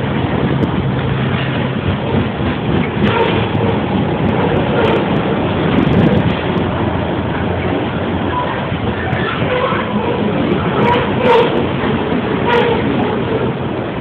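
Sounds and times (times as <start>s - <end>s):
freight train wheels on rails: 0.0s - 14.0s.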